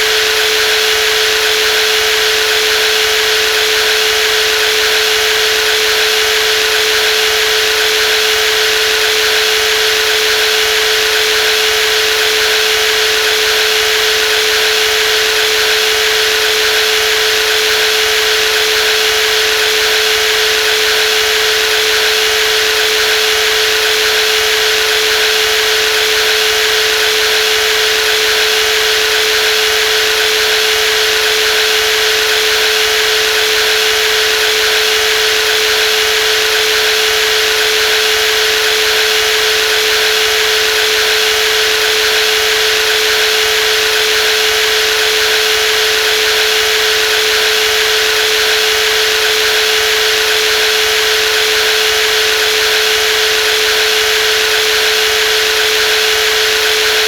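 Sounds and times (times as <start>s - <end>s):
jigsaw motor whine: 0.0s - 57.0s.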